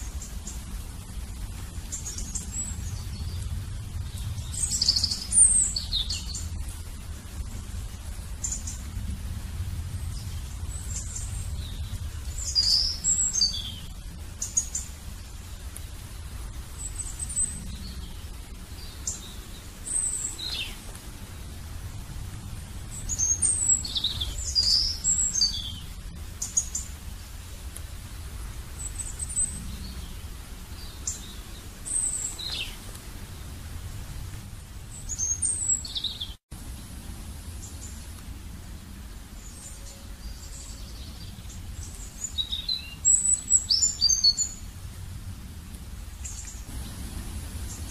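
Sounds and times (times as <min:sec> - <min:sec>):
birds chirping: 0:00.0 - 0:44.7, 0:46.1 - 0:47.9
steady low rumble: 0:00.0 - 0:47.9.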